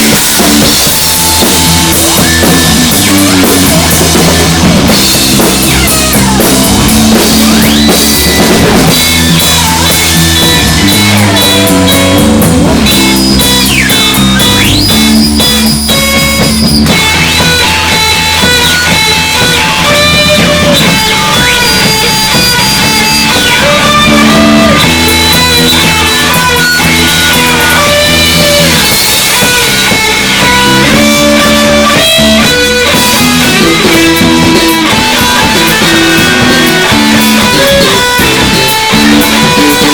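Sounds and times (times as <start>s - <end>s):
distorted electric guitar squealing: 0.0s - 39.9s
drum kit and bass rhythm: 0.0s - 39.9s.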